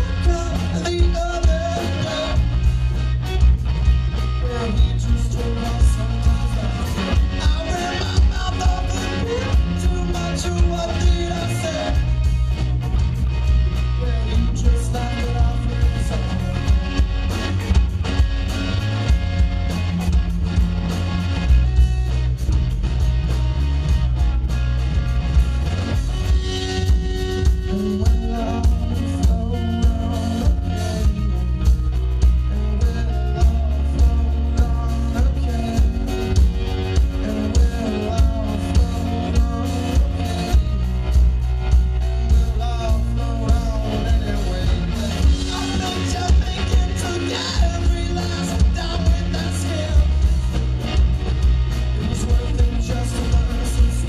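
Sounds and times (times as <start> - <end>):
bass guitar: 0.0 - 54.0
drum kit beat: 0.0 - 54.0
electric guitar: 0.0 - 54.0.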